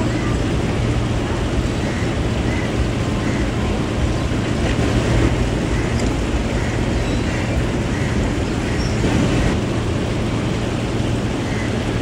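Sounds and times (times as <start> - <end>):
boat engines rumbling: 0.0 - 12.0.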